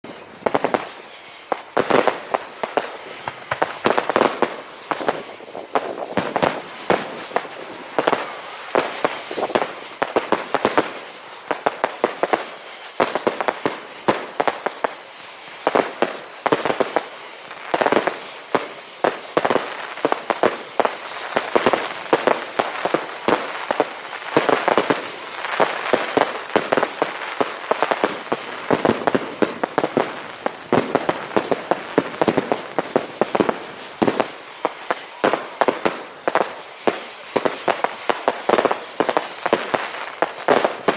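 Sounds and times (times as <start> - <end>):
fireworks bangs and crackling: 0.0 - 40.9
high falling whistles: 0.0 - 40.9.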